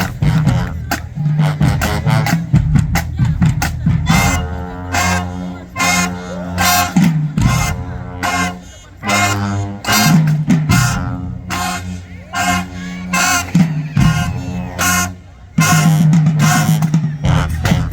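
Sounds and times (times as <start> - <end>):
brass chords: 0.0 - 17.9
marching drum cadence: 0.0 - 17.9.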